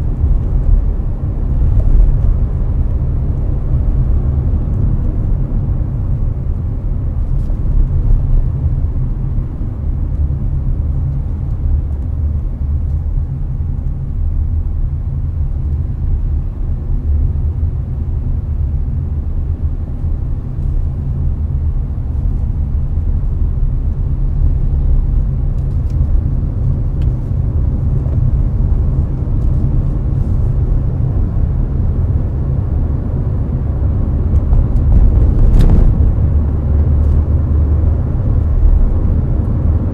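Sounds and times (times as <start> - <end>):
air conditioner blowing: 0.0 - 39.9
tyre and engine rumble: 0.0 - 39.9.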